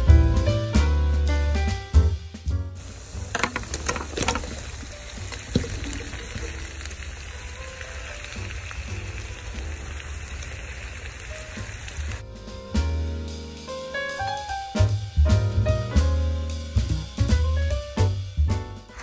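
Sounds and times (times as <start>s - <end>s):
oil sizzling in a pan: 2.8s - 18.2s.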